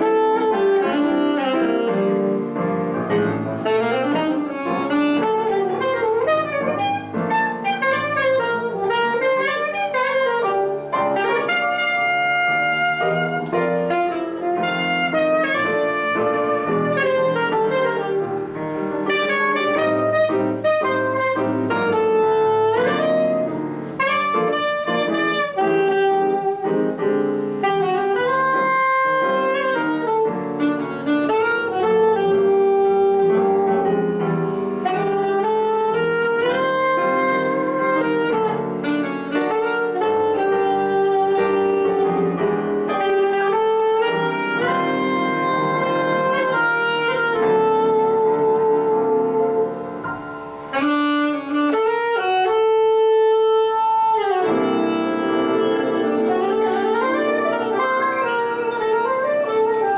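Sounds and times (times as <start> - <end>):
grand piano accompaniment: 0.0 - 59.9
saxophone march melody: 0.0 - 59.9.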